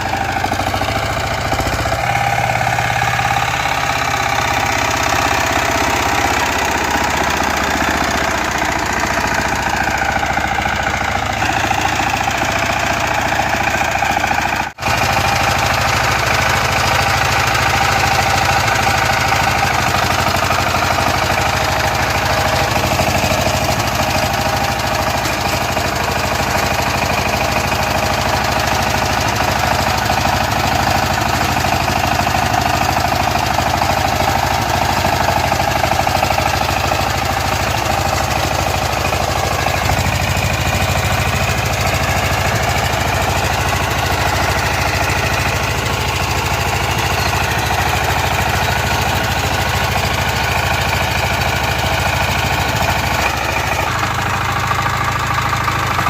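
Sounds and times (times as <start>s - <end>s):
power tiller engine knocking: 0.0s - 56.0s.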